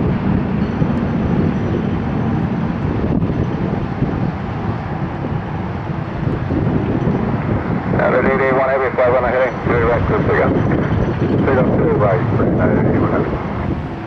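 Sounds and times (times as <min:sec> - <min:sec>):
jet engines rumbling: 0:00.0 - 0:14.0
wind on microphone: 0:00.0 - 0:14.0.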